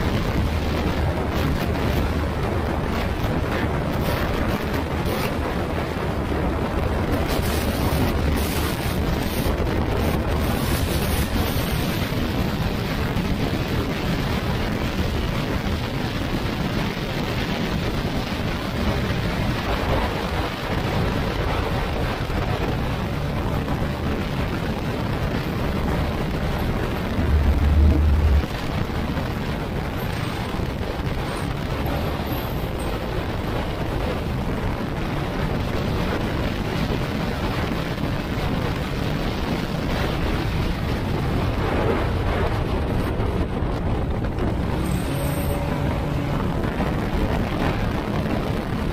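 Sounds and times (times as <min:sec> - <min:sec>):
road noise: 0:00.0 - 0:48.9
wind rushing over microphone: 0:00.0 - 0:48.9.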